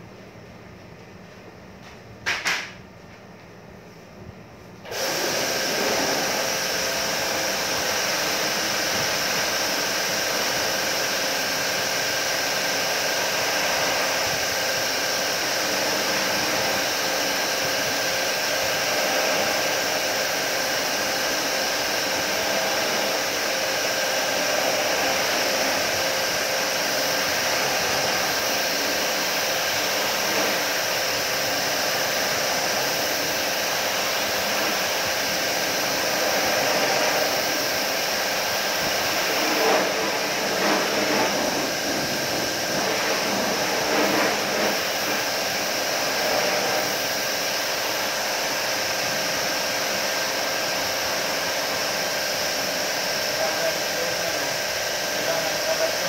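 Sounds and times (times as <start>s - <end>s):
pressure washer water jet hiss: 4.9s - 56.0s.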